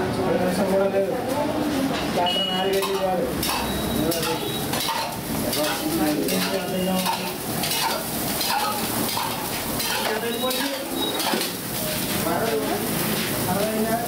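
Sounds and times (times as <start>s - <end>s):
metal plates and pots clattering: 2.1s - 13.8s.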